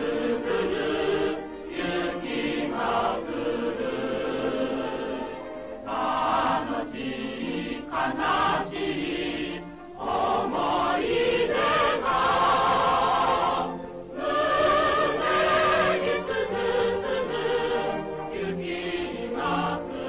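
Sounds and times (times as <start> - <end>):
choir singing with music: 0.0 - 20.0.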